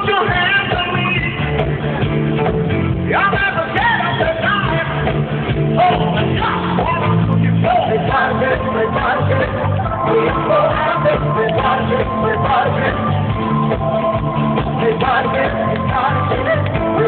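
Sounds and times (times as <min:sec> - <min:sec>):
person singing: 0:00.0 - 0:01.7, 0:03.0 - 0:17.0
live band playing: 0:00.0 - 0:17.0.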